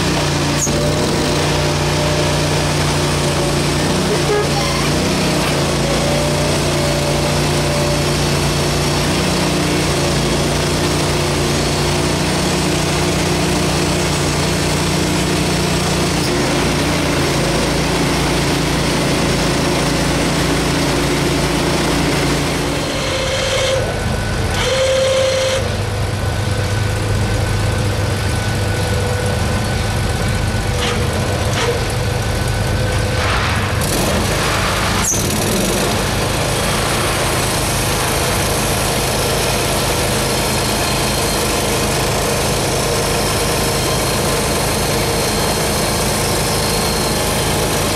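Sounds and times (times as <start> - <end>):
sawmill engine running: 0.0 - 47.9.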